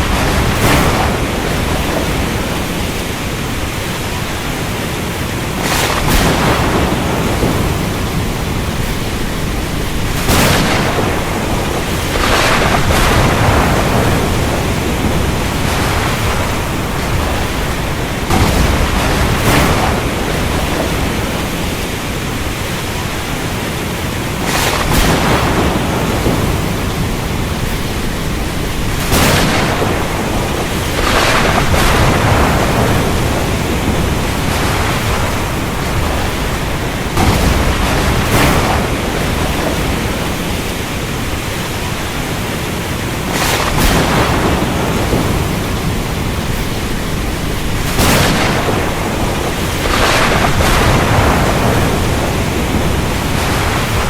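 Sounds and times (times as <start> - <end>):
thunder cracks: 0.0 - 23.6, 24.3 - 42.0, 43.2 - 54.0
heavy rain: 0.0 - 54.0.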